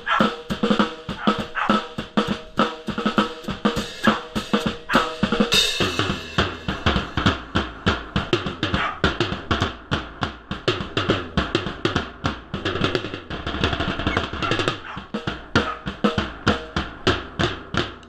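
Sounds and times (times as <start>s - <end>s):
drum kit fast beat: 0.0s - 18.0s.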